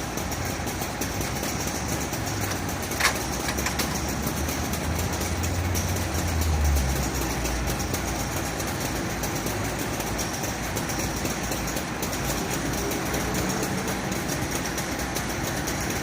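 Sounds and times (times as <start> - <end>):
fire truck engine idling: 0.0 - 16.0.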